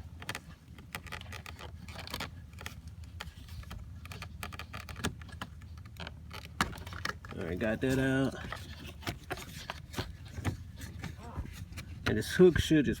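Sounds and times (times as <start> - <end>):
plastic and metal clicks and rattles: 0.0 - 12.2.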